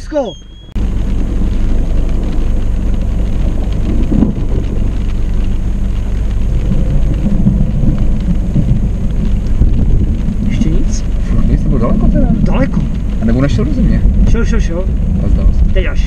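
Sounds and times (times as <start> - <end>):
rain on car glass: 0.0 - 16.0
deep thunder rumble: 0.8 - 16.0.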